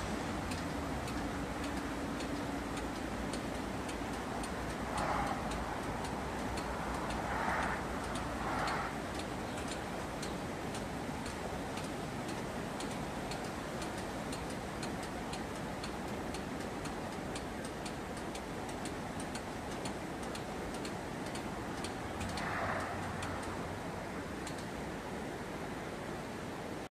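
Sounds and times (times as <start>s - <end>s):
faint regular ticking: 0.0s - 26.1s
outdoor background noise: 0.0s - 26.9s.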